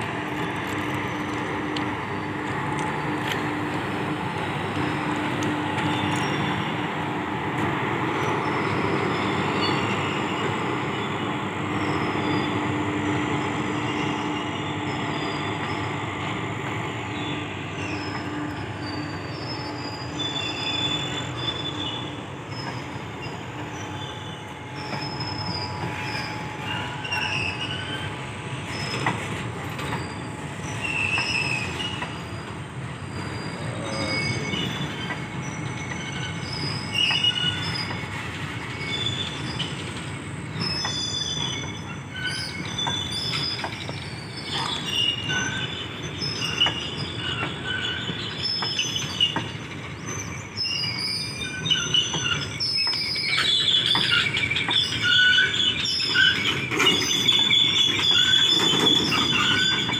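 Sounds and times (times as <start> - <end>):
train wheels rumbling on rail: 0.0 - 59.9
wheels squealing: 0.0 - 59.9.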